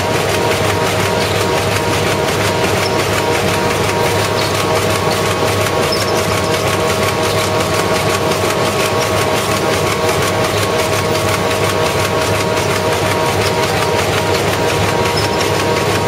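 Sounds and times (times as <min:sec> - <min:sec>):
printing machine running: 0:00.0 - 0:16.0.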